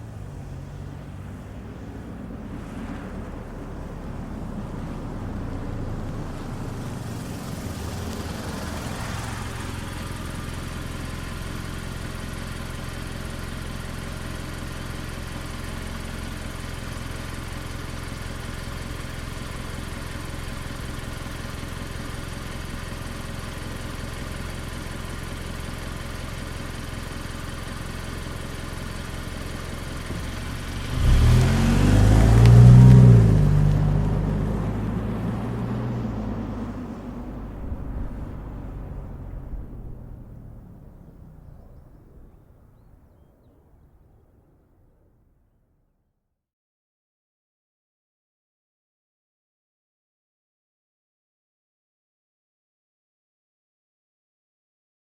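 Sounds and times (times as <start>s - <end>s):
car engine idling: 0.0s - 45.5s
car pulling in: 0.0s - 45.5s.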